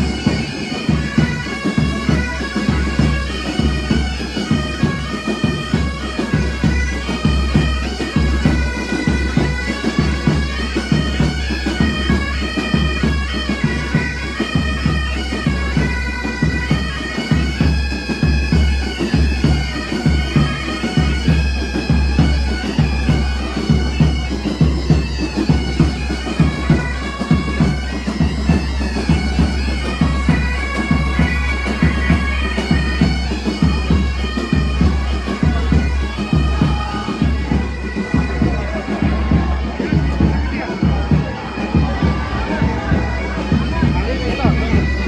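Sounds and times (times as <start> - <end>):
bagpipes with drones: 0.0 - 45.0
drums beating: 0.0 - 45.0.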